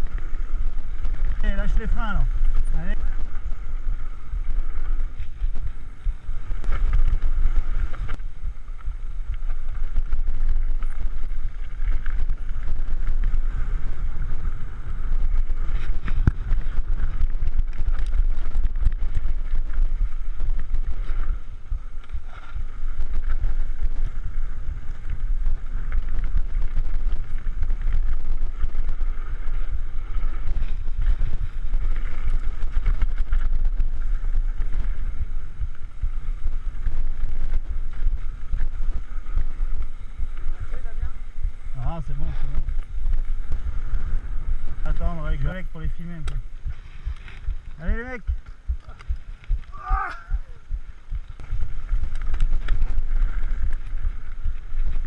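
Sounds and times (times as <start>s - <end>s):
bike rattling over gravel: 0.0s - 55.0s
wind rumble on microphone: 0.0s - 55.0s.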